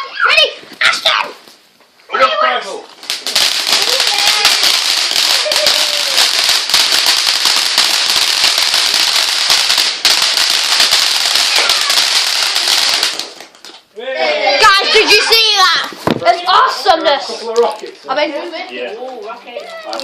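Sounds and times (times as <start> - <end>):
firework crackling: 2.6 - 13.9, 14.6 - 20.0.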